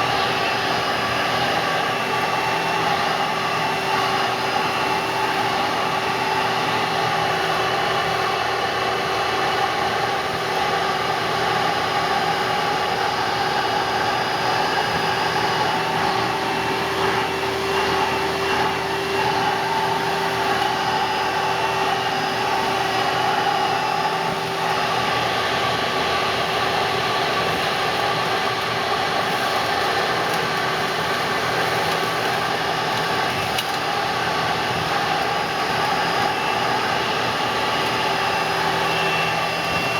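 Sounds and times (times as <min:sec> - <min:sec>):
upright vacuum running: 0:00.0 - 0:39.9.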